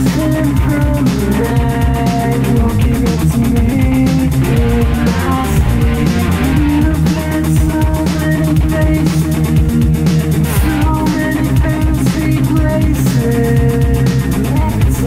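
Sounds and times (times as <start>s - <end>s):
guitar-led instrumental music: 0.0s - 15.0s.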